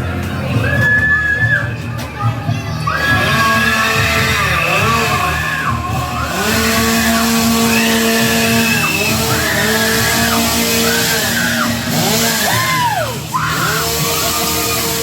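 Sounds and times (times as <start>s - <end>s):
loud music with held notes: 0.0s - 15.0s
high squealing bending lines: 0.7s - 15.0s.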